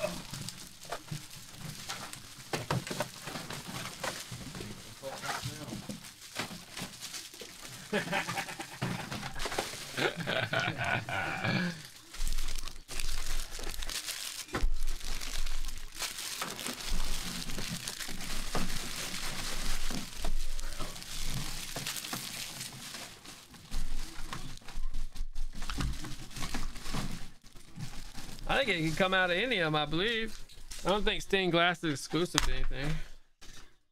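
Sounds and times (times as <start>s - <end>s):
foil wrappers crinkling: 0.0s - 31.2s.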